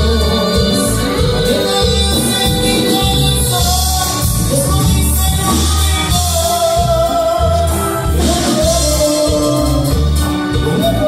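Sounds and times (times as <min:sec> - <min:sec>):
pulsing bass line: 0:00.0 - 0:11.0
regional dance music with singing: 0:00.0 - 0:11.0.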